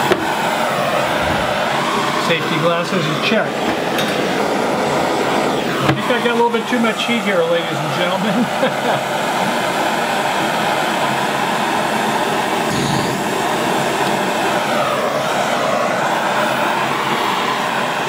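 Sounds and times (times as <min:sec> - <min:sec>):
propane torch flame hissing: 0:00.0 - 0:18.0.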